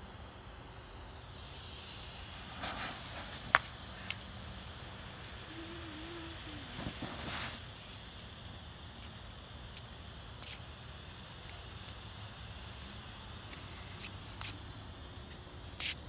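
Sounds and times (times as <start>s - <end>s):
smoke bomb hissing: 0.0s - 16.0s.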